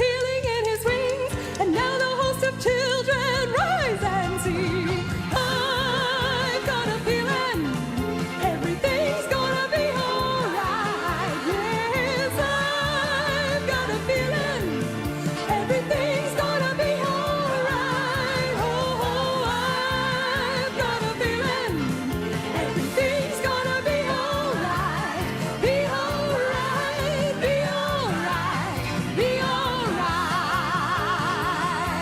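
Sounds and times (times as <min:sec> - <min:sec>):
pop song with singer and band: 0:00.0 - 0:32.0.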